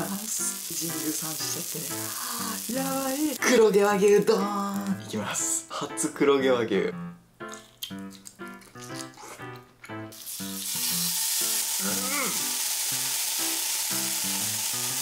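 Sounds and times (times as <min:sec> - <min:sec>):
steak sizzling: 0:00.0 - 0:05.1, 0:07.5 - 0:15.0
background music: 0:00.0 - 0:15.0.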